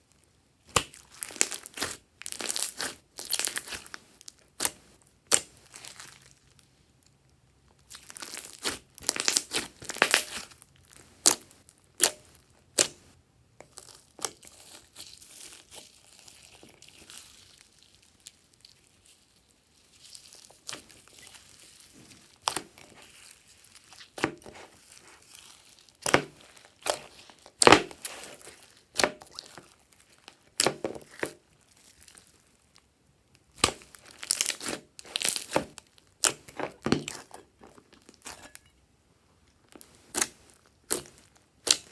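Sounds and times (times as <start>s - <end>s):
slime popping and crackling: 0.6s - 6.6s, 7.8s - 13.0s, 13.6s - 32.4s, 33.4s - 38.6s, 39.8s - 41.9s.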